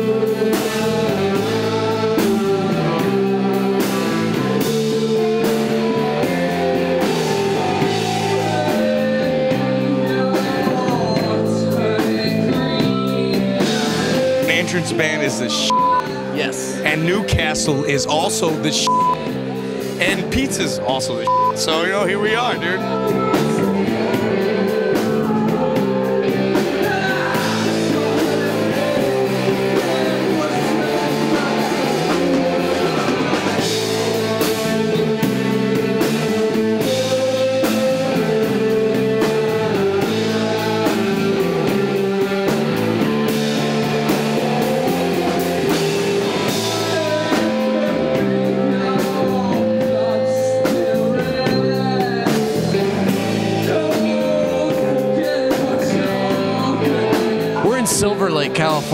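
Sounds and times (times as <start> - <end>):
person singing: 0.0 - 34.7, 44.4 - 58.9
drum kit: 0.0 - 58.9
electric guitar: 0.0 - 58.9.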